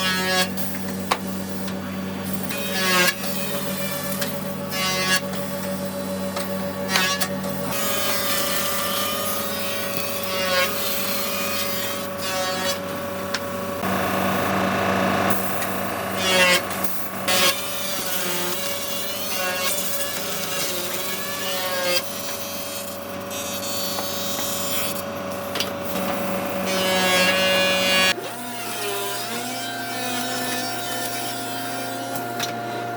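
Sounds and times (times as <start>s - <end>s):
power machinery cutting wood: 0.0s - 32.9s.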